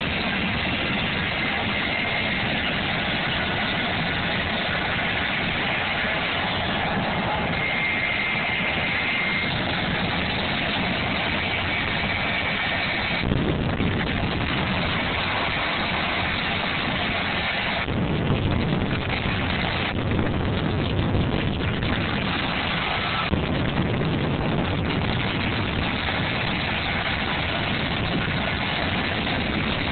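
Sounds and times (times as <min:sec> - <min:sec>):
jet engine running: 0:00.0 - 0:29.9.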